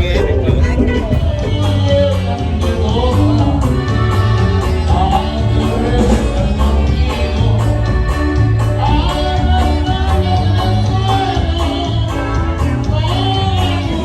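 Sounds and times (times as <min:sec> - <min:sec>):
loud music with singing: 0:00.0 - 0:14.0.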